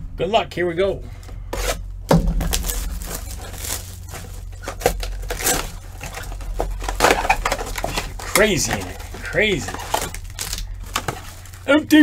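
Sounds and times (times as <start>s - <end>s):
packaging tearing and crinkling: 1.6s - 12.0s.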